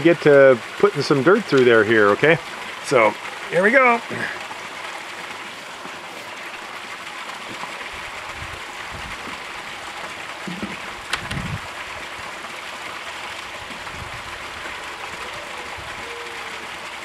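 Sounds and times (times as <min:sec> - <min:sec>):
water pouring into tub: 0:00.0 - 0:17.0.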